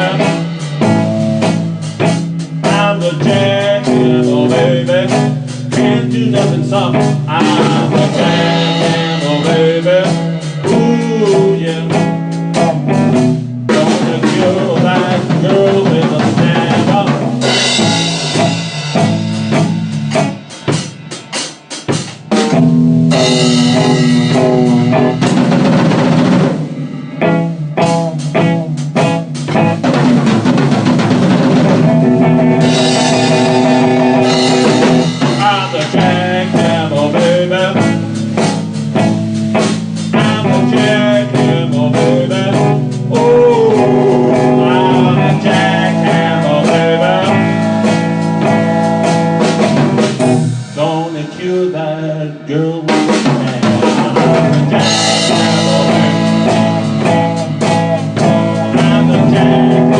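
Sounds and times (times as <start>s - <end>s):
drum kit beat: 0.0s - 59.9s
electric guitar: 0.0s - 59.9s.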